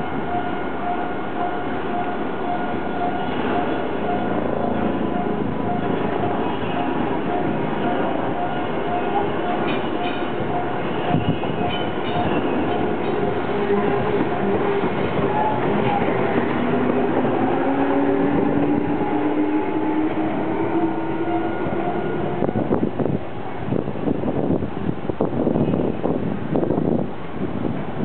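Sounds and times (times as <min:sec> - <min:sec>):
train wheels rolling over rails: 0:00.0 - 0:28.0.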